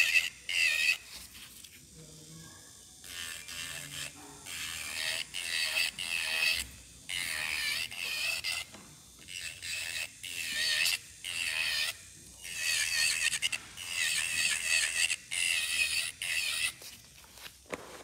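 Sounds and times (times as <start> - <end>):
electric nail drill whining: 0.0 - 1.2, 3.0 - 17.1.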